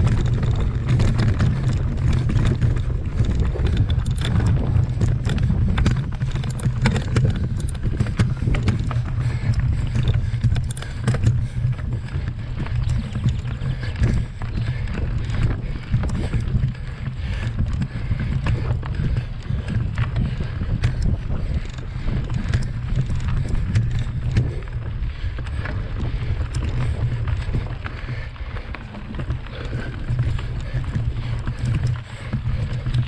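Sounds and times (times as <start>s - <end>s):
bike rattling over rough trail: 0.0s - 33.0s
wind buffeting microphone: 0.0s - 33.0s.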